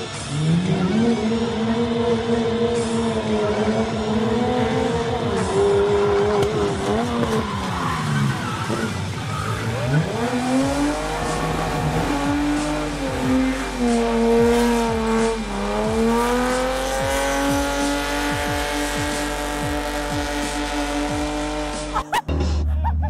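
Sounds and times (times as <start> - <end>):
car engine revving high: 0.0 - 22.1.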